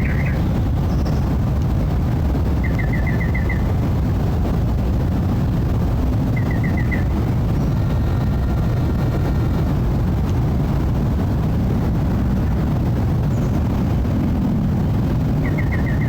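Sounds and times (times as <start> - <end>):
faint engine whine: 0.0 - 16.0
jet engines roaring overhead: 0.0 - 16.0.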